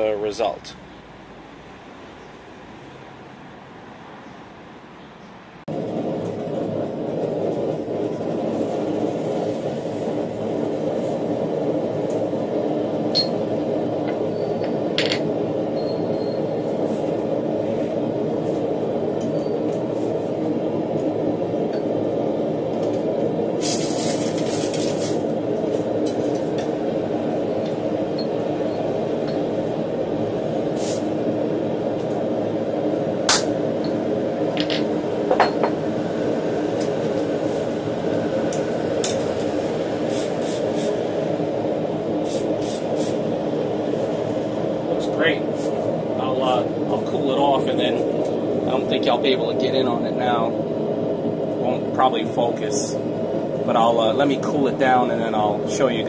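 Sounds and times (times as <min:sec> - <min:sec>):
forge roaring: 0:05.7 - 0:56.0.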